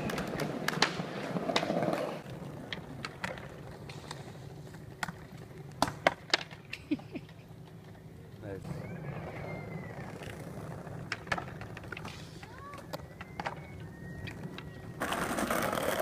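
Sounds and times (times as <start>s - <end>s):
skateboard clattering on concrete: 0.0s - 7.8s, 10.0s - 16.0s
skateboard clacks: 0.0s - 8.1s, 9.3s - 16.0s
skateboard wheels rolling on pavement: 0.0s - 16.0s.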